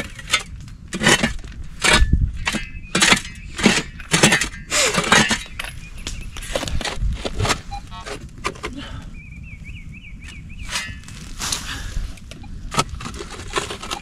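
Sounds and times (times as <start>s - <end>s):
digging tool striking stony soil: 0.0s - 8.8s, 10.6s - 11.8s, 12.6s - 14.0s.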